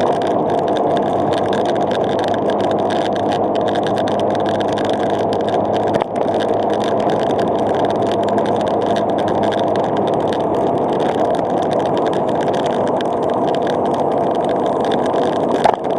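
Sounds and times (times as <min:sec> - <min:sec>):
engine hum: 0:00.0 - 0:15.9
tyres rolling over gravel: 0:00.0 - 0:15.9.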